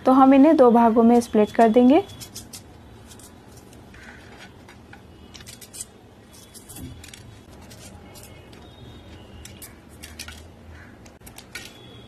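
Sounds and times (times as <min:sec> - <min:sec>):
knife slitting chillies: 0:01.2 - 0:11.8.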